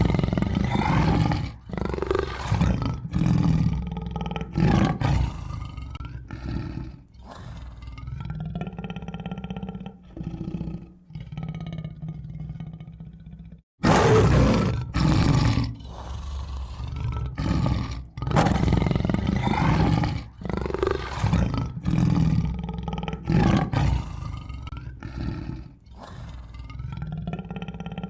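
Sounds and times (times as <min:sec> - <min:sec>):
tiger roaring: 0:00.0 - 0:28.0.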